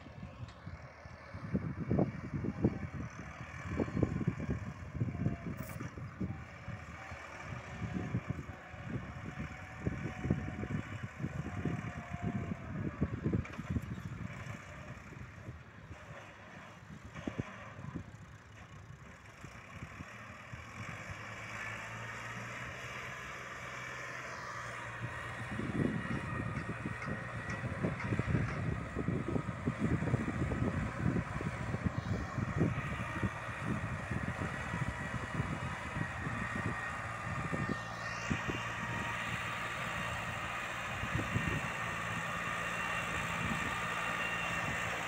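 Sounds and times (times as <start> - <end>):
tractor diesel engine under load: 0.0 - 45.0.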